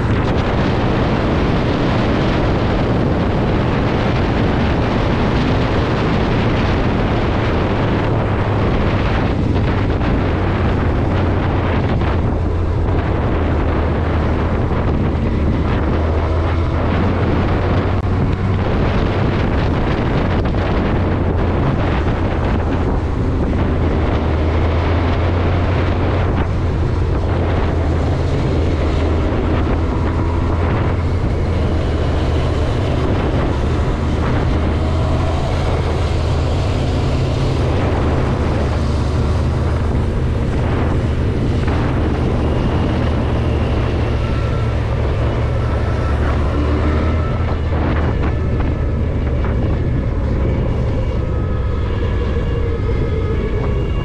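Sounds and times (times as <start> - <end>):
vehicle engine and road drone: 0.0 - 54.0
wind noise on microphone: 0.0 - 54.0.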